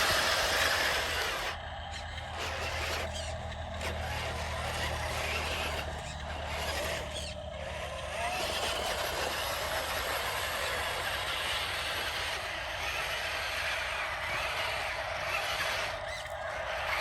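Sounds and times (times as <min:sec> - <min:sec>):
toy truck motor humming and whirring: 0:00.0 - 0:17.0.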